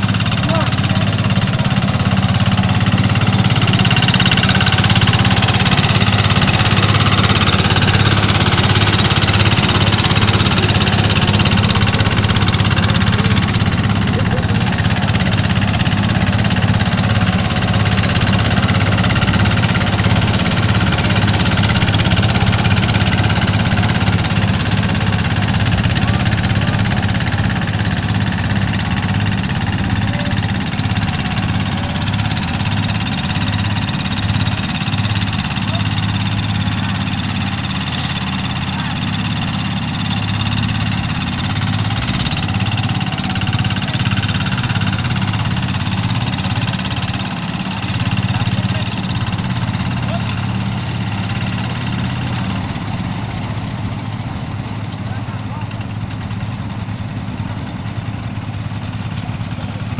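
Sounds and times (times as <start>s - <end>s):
harvester engine drone: 0.0s - 59.9s.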